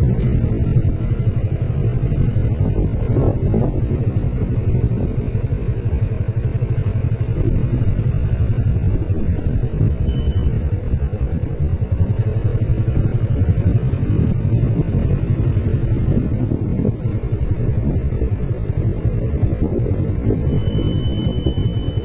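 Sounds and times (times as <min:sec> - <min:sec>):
low rumble: 0:00.0 - 0:22.0
motorcycle engine cruising: 0:00.0 - 0:22.0.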